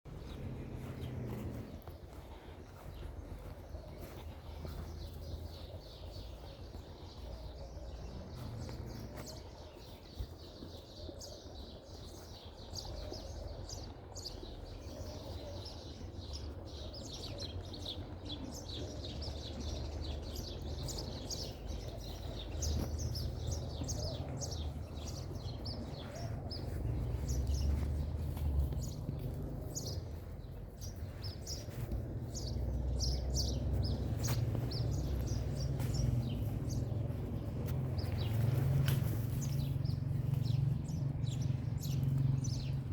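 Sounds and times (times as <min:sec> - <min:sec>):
small birds chirping: 0:00.1 - 0:42.9.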